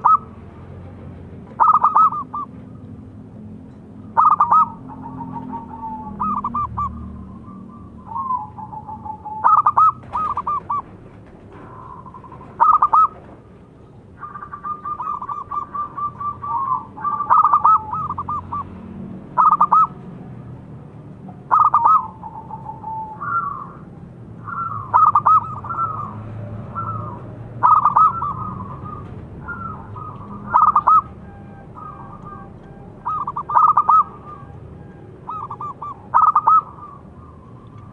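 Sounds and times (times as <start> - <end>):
dove cooing: 0.0 - 0.4, 1.5 - 2.6, 4.1 - 13.4, 14.1 - 20.0, 21.3 - 37.9.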